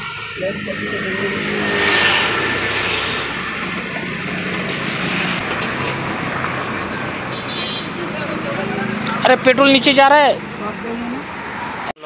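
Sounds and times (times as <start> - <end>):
vehicle engine and traffic noise: 0.0 - 12.0.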